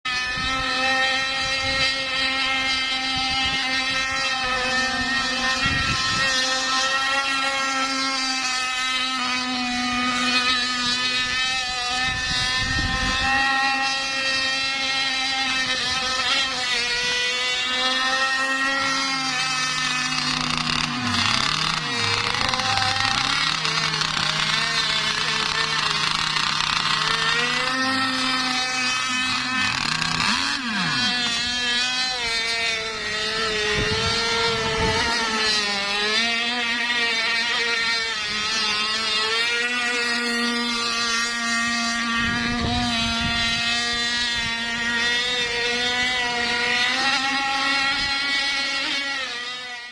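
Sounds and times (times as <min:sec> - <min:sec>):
toy speedboat motor running: 0:00.0 - 0:49.9.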